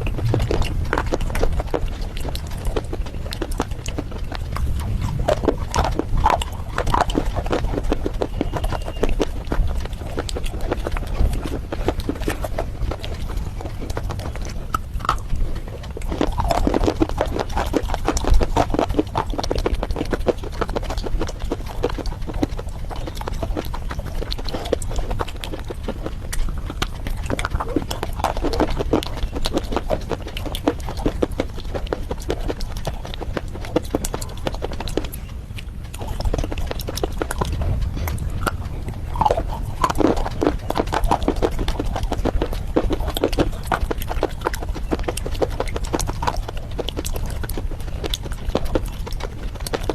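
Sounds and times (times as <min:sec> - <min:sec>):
chewing and crunching: 0:00.0 - 0:49.9.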